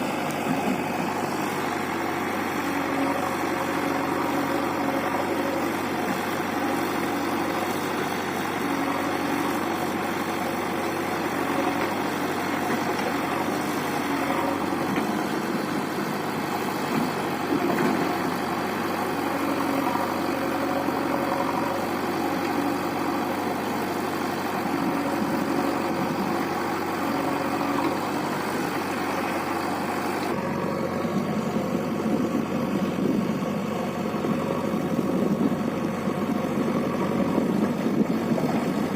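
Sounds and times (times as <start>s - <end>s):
diesel engines idling: 0.0s - 38.9s.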